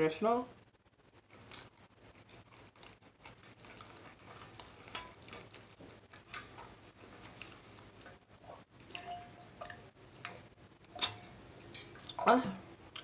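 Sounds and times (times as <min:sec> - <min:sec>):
faint chewing: 0:01.2 - 0:12.3.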